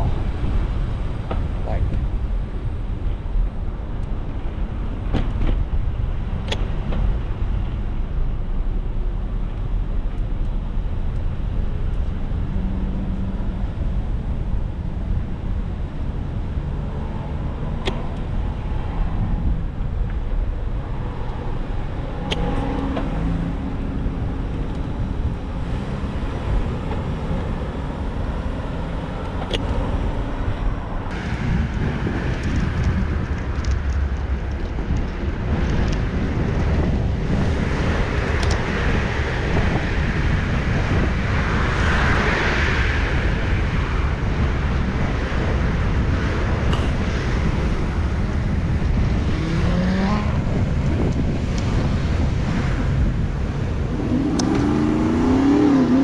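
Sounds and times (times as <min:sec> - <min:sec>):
cars passing: 0:00.0 - 0:56.0
wind rumble on microphone: 0:00.0 - 0:56.0.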